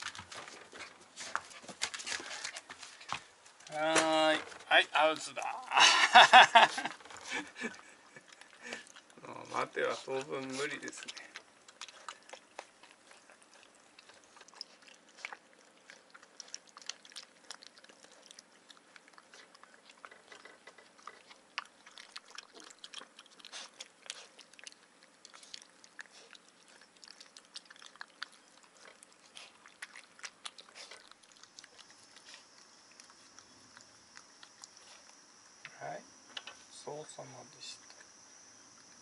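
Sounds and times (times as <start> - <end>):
puppy crunching dry kibble: 0.0 - 36.5.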